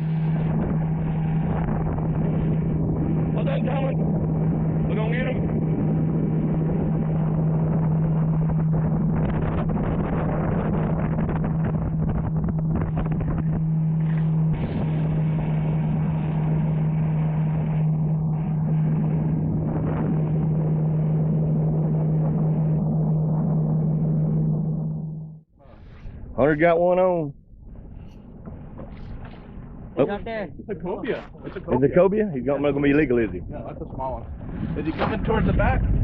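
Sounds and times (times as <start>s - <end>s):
motorboat engine droning: 0.0s - 36.0s
wind buffeting microphone: 0.0s - 36.0s.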